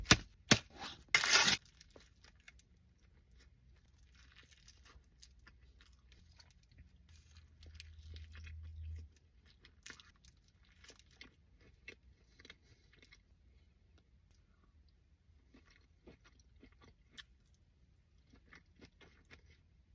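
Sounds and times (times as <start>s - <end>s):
chewing with wet clicks: 2.1s - 19.9s.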